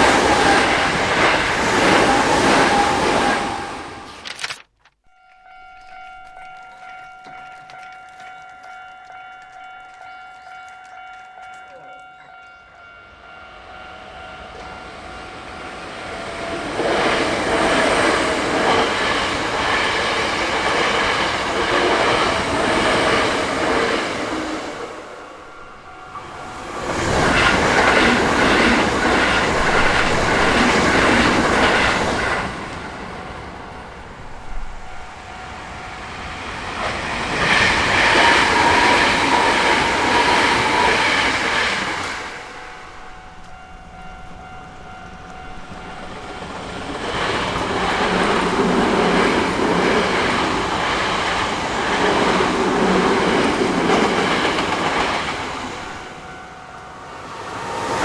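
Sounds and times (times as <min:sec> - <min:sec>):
steady warning tones: 0:05.0 - 0:58.0
train wheels clattering: 0:05.1 - 0:12.6, 0:16.0 - 0:56.4.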